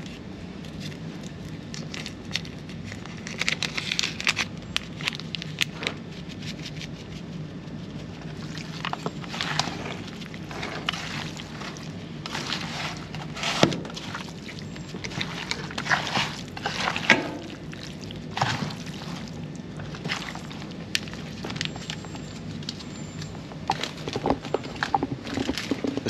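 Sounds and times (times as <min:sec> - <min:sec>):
hands squishing raw chicken: 0:00.0 - 0:26.0
steady low hum: 0:00.0 - 0:26.0.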